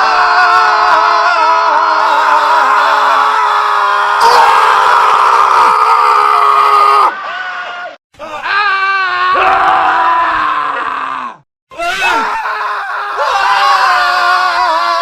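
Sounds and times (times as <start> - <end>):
men screaming: 0.0 - 15.0.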